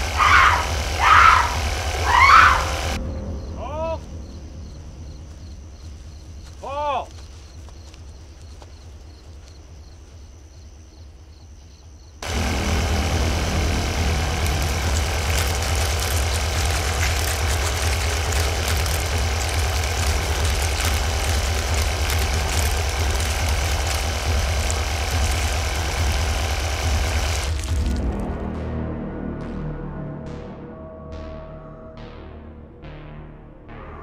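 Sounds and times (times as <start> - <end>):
pulsing engine-like rumble: 0.0 - 10.2, 12.2 - 31.3.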